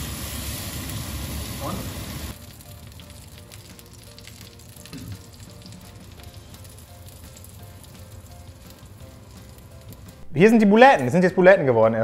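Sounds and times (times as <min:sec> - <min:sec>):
food sizzling in hot oil: 0:00.0 - 0:10.3.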